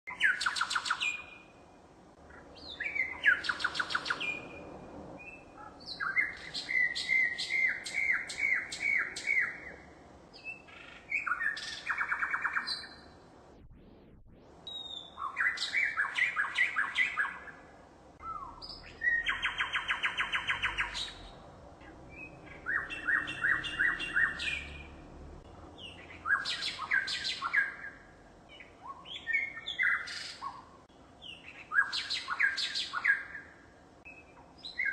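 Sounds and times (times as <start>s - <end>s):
songbird singing trills: 0.1s - 1.6s, 2.3s - 13.2s, 14.6s - 17.6s, 18.2s - 34.9s.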